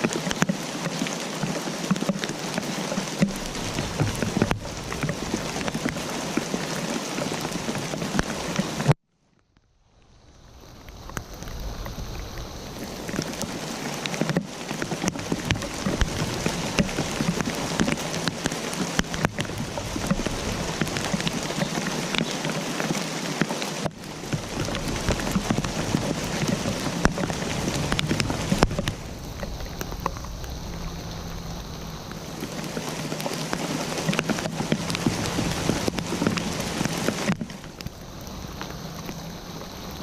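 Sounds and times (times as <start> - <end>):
raindrop hits: 0.0 - 40.0
steady rain falling: 0.0 - 40.0.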